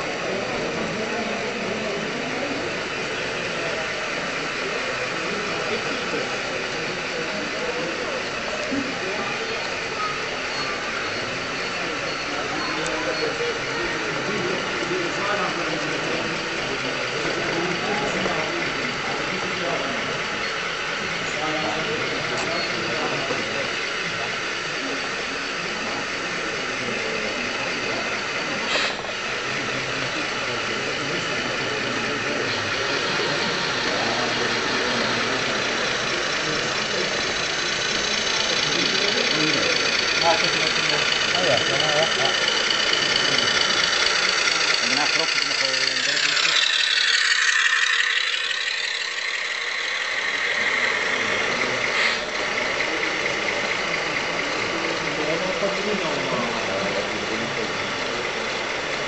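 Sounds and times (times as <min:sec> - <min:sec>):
model car motor running: 0:00.0 - 0:59.0.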